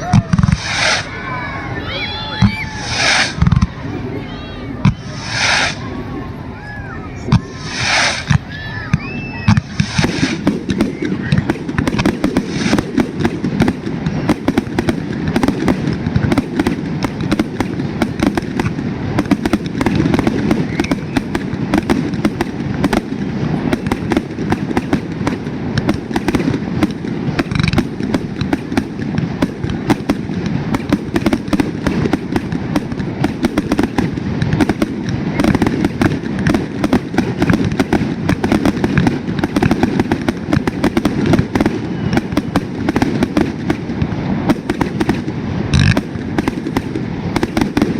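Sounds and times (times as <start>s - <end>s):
fireworks cracks and pops: 0.0s - 5.9s, 7.2s - 47.9s
rumble of fireworks bangs: 0.0s - 47.9s.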